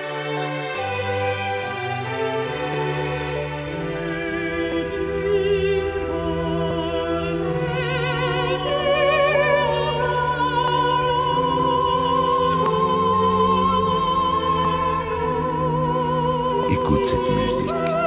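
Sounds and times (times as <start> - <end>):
operatic singing voice: 2.0 - 18.0.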